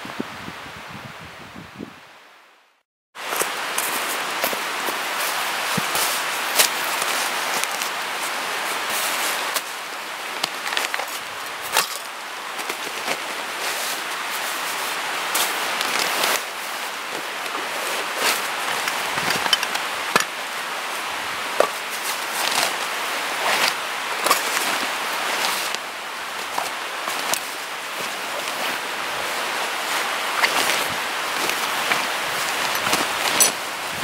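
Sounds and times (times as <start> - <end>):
camping gear rustling: 3.2 - 34.0
steady hiss: 3.2 - 34.0.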